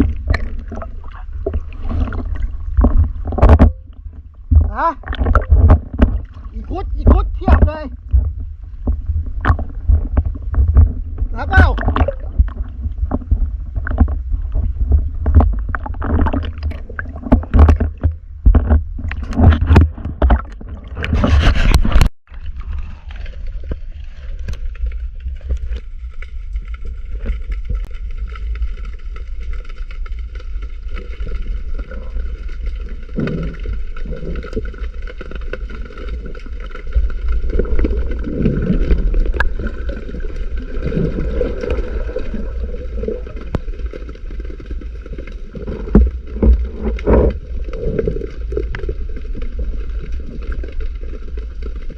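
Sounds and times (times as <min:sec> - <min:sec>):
water splashing and knocks: 0:00.0 - 0:31.8, 0:32.5 - 0:51.9
muffled underwater rumble: 0:00.0 - 0:51.9.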